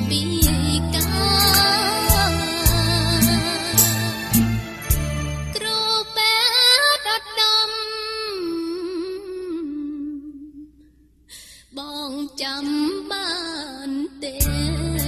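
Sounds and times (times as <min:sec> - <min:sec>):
woman singing: 0:00.0 - 0:04.4, 0:05.5 - 0:10.8, 0:11.6 - 0:15.0.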